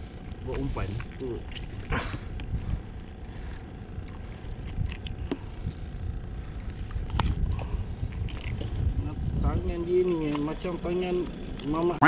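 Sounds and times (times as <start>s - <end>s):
water slapping against boat: 0.0s - 10.4s
wind rumbling on microphone: 0.0s - 10.7s.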